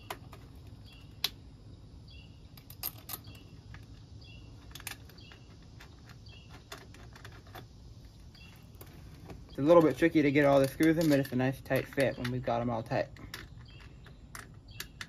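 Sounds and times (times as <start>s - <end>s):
small screws clicking: 2.5s - 15.0s.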